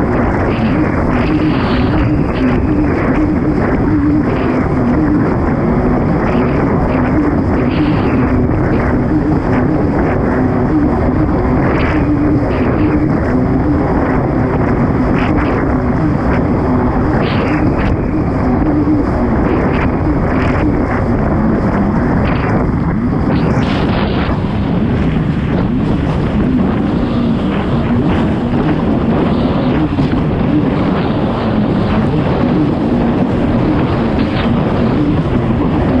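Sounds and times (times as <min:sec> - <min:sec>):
watercraft engine running hard: 0:00.0 - 0:36.0
wind noise on microphone: 0:00.0 - 0:36.0.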